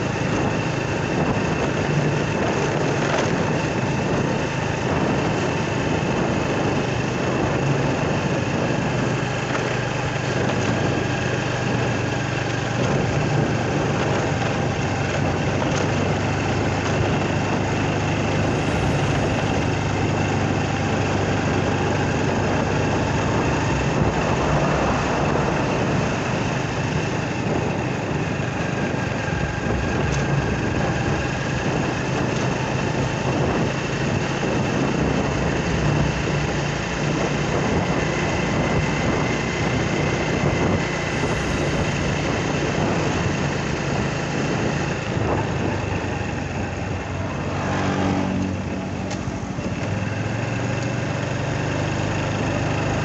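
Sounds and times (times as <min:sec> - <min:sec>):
motorcycle engine running: 0:00.0 - 0:53.0
road noise: 0:00.0 - 0:53.0
wind noise: 0:00.0 - 0:53.0.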